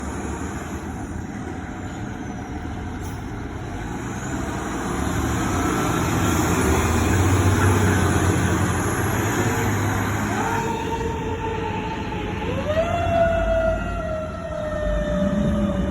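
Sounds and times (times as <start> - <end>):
fire truck diesel engine rumble: 0.0 - 15.9.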